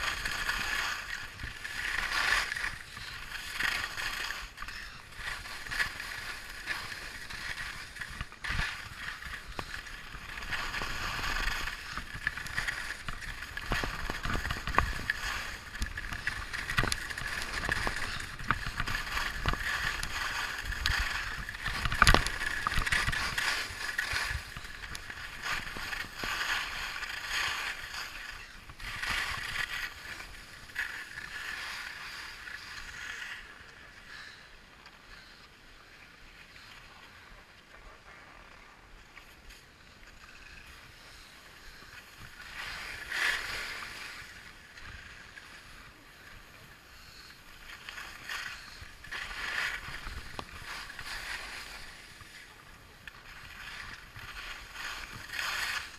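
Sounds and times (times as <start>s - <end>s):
skis scraping over snow: 0.0s - 34.4s, 39.5s - 55.9s.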